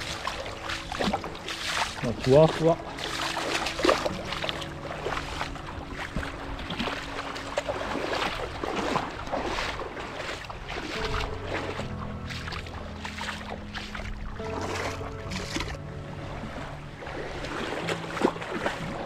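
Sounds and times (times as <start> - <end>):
footsteps wading through water: 0.0 - 19.0.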